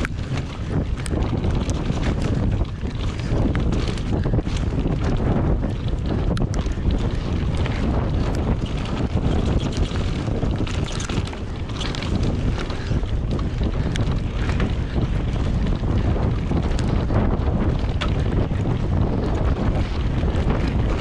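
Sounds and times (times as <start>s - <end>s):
bike clicks and rattles: 0.0s - 21.0s
tyres rumbling on dirt trail: 0.0s - 21.0s
wind rushing over microphone: 0.0s - 21.0s.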